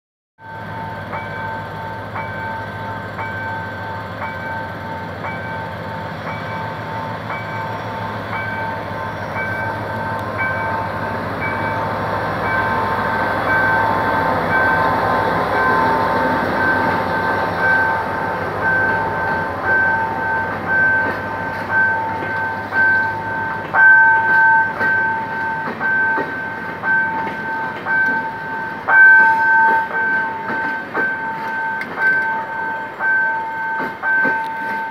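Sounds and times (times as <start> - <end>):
diesel locomotive droning: 0.4 - 34.9
coach wheels knocking on rail joints: 0.7 - 34.9.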